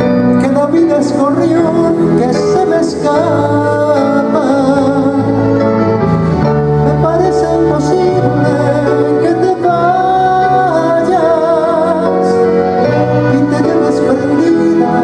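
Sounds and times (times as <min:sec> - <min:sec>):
live band playing ballad: 0:00.0 - 0:15.0
man singing: 0:00.0 - 0:15.0.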